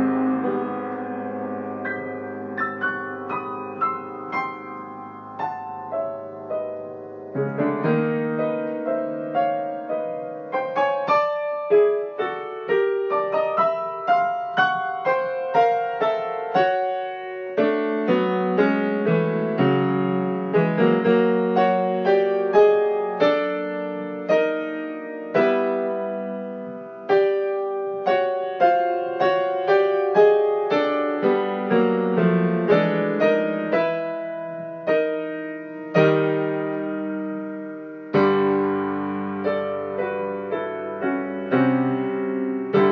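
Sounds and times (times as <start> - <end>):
solo piano chords: 0.0 - 42.9.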